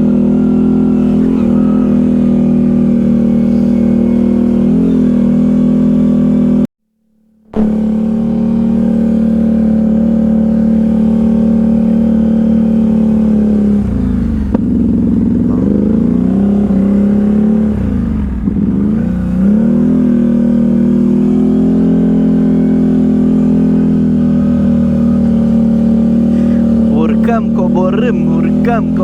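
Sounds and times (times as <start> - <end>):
quad bike engine revving: 0.0 - 6.7, 7.5 - 29.0.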